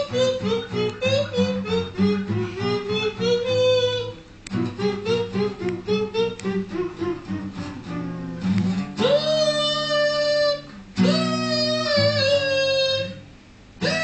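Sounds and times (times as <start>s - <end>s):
person wailing long notes: 0.0s - 13.2s, 13.8s - 14.0s
guitar: 0.0s - 14.0s.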